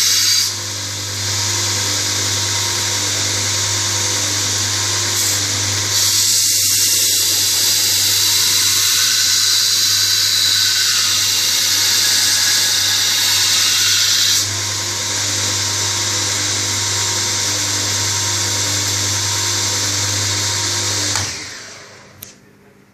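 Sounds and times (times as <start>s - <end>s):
loud grinding hiss: 0.0s - 21.6s
belt grinder running: 0.0s - 22.2s.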